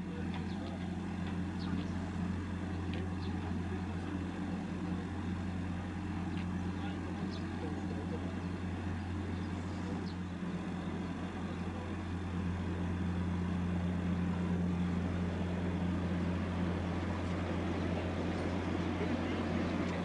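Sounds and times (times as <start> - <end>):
outdoor noise: 0.0 - 20.0
ship engine drone: 0.0 - 20.0.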